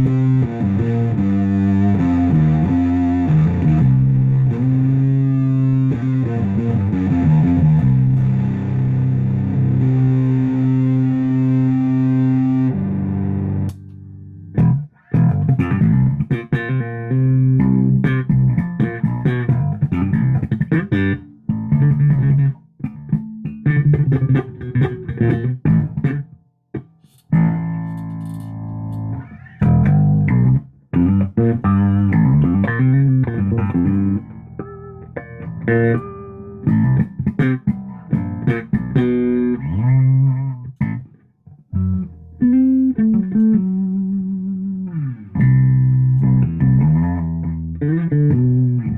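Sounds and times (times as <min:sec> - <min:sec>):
electric bass playing: 0:00.0 - 0:48.9.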